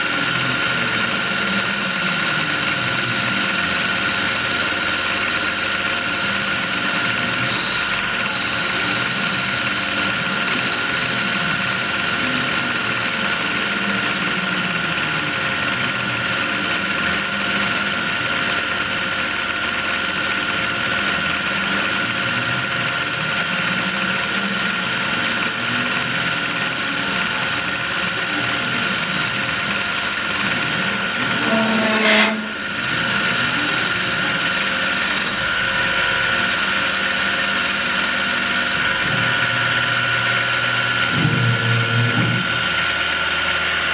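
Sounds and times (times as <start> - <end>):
machine spindle whine: 0.0 - 43.9
tool chatter: 0.0 - 43.9.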